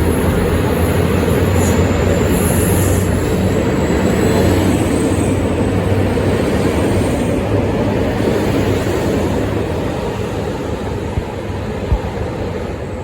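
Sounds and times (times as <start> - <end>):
diesel railcar engine drone: 0.0 - 13.0
wheel and rail noise: 0.0 - 13.0.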